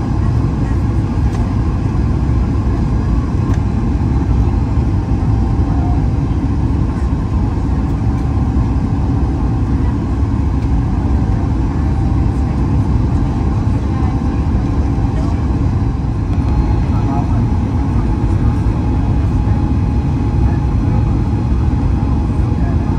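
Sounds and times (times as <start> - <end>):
airflow over aircraft fuselage: 0.0 - 22.9
jet engines droning: 0.0 - 22.9.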